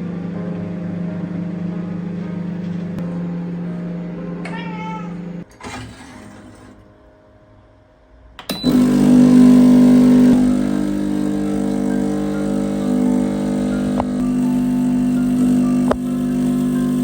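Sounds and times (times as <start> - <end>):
appliance humming: 0.0 - 6.9, 8.4 - 17.0.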